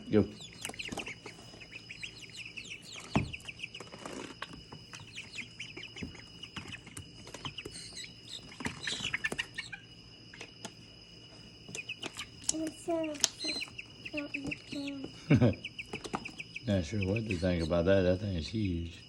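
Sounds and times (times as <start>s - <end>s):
birds chirping and peeping: 0.0s - 19.0s
high-pitched whine: 0.0s - 19.0s.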